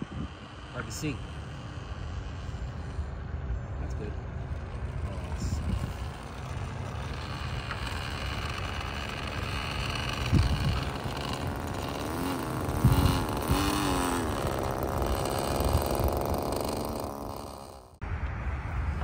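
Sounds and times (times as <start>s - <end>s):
model plane engine running: 0.0s - 18.0s.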